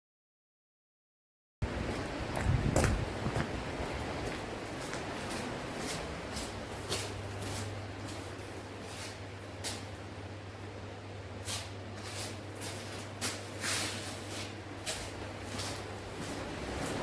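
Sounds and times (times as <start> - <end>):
steady low hum: 1.6 - 17.0
scuffing footsteps: 1.8 - 10.1, 11.4 - 17.0.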